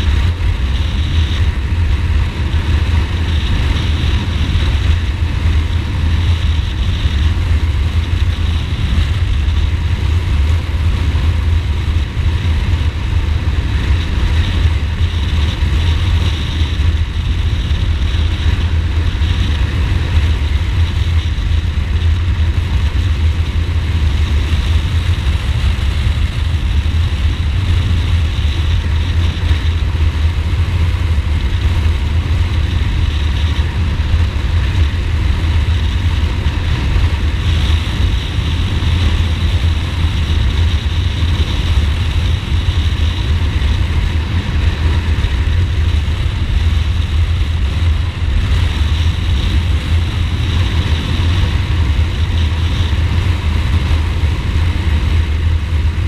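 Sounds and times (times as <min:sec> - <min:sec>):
motorcycle engine rumble: 0:00.0 - 0:56.0
rushing air: 0:00.0 - 0:56.0.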